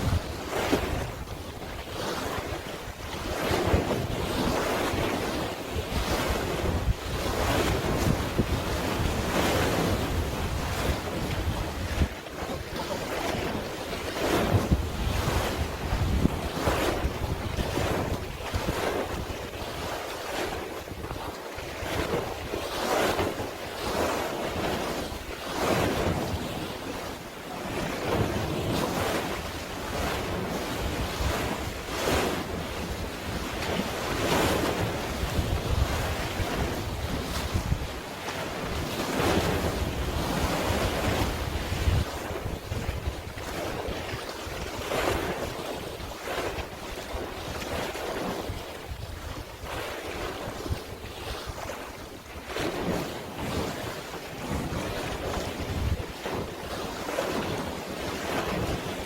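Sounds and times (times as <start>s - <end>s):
sea waves washing in: 0.0s - 59.0s
wind rumbling on microphone: 0.0s - 59.0s.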